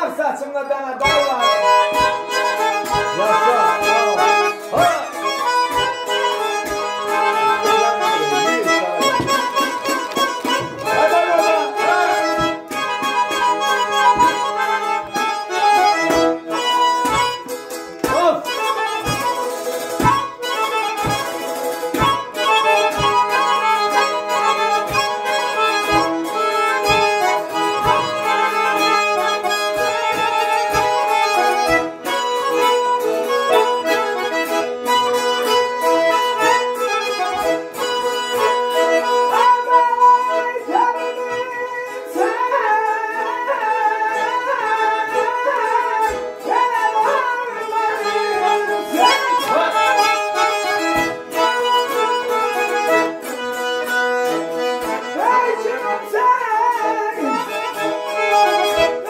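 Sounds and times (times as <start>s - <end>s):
button accordion folk melody: 0.0s - 59.0s
saz playing: 0.0s - 59.0s.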